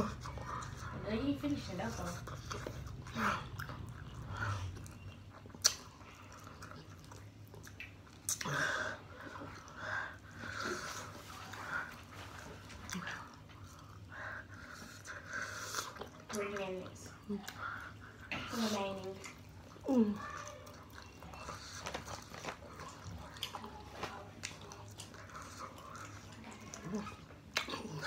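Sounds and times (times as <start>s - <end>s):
person chewing food: 1.9s - 28.0s.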